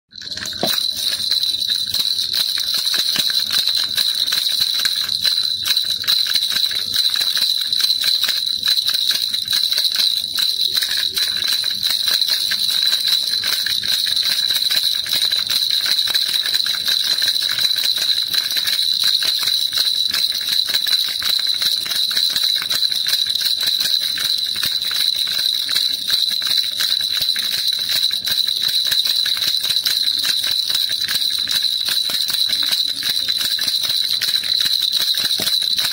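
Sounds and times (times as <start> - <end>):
baby rattle jingling: 0.1 - 35.9.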